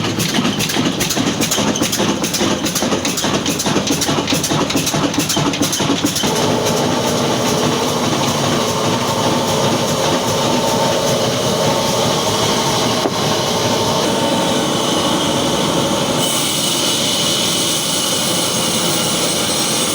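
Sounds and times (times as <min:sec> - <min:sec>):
diesel engine running: 0:00.0 - 0:16.2.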